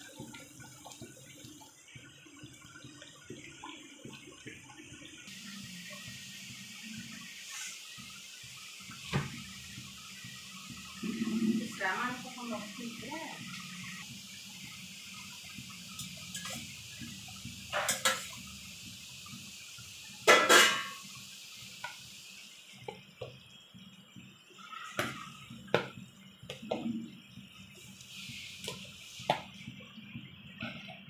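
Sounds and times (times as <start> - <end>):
curry bubbling: 0.0 - 31.0.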